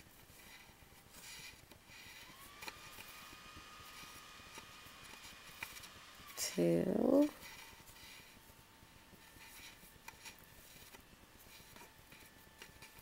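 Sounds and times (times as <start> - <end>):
faint rustling of thread: 0.0 - 3.2, 5.2 - 13.0.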